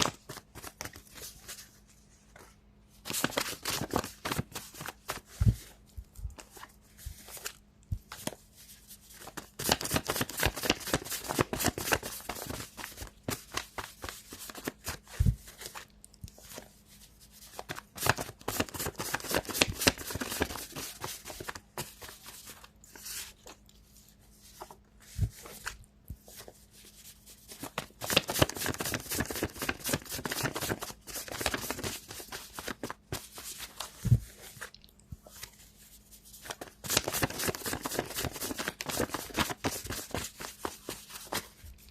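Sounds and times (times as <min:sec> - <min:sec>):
cards being shuffled: 0:03.1 - 0:08.4, 0:09.1 - 0:35.7, 0:36.3 - 0:41.9.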